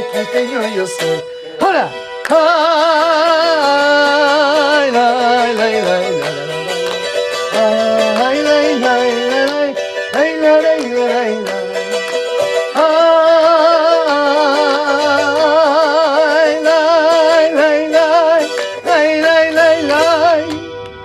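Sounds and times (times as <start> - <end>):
person singing with vibrato: 0.0 - 21.0
strummed guitar: 0.0 - 21.0.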